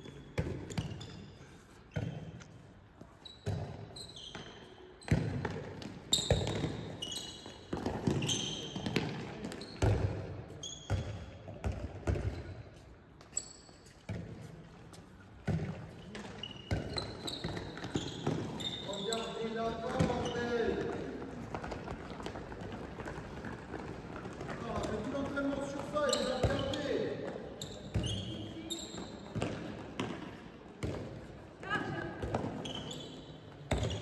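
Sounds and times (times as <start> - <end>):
handball bouncing on hall floor: 0.0 - 34.0
sneakers squeaking on court: 0.0 - 34.0.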